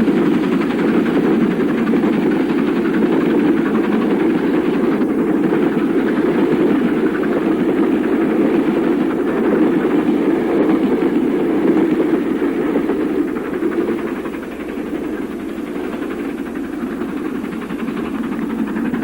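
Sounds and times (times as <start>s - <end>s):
steam locomotive exhaust rush: 0.0s - 19.0s.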